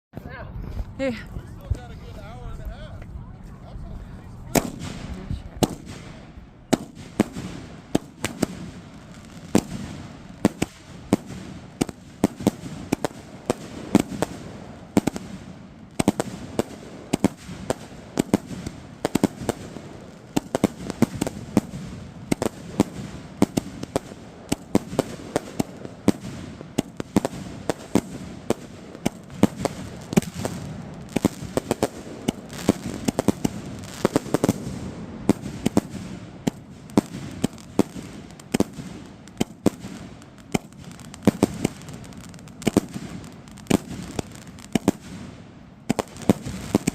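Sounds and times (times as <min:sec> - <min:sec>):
firework cake bangs and crackles: 0:04.3 - 0:46.9.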